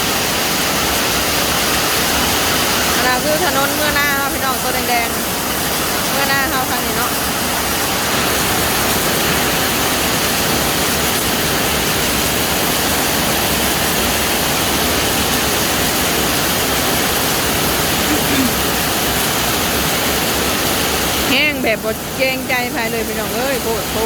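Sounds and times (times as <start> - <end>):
rushing storm water: 0.0 - 24.0.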